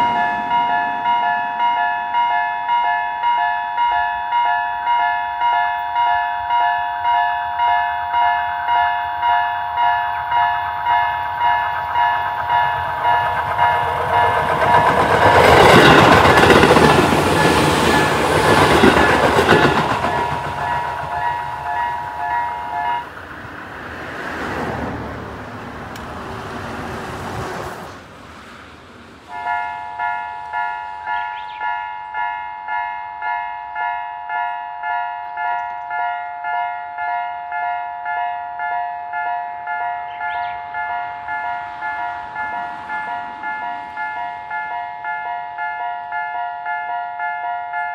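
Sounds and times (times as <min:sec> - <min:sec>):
train passing: 0:00.0 - 0:47.9.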